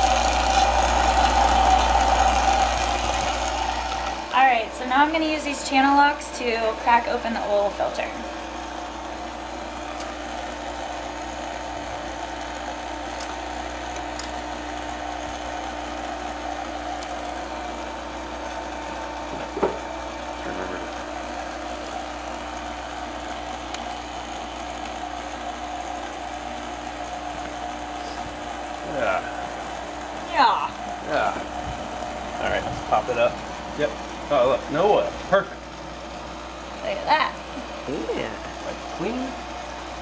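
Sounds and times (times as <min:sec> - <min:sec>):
pump whirring: 0:00.0 - 0:40.0.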